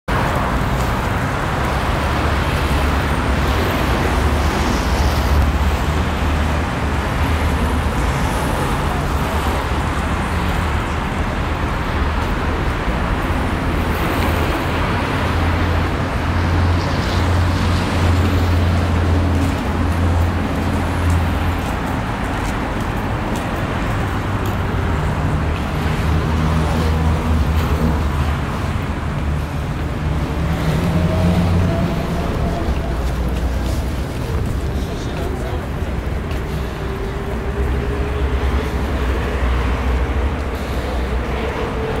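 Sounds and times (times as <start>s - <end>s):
city road traffic rumble: 0.0s - 42.0s.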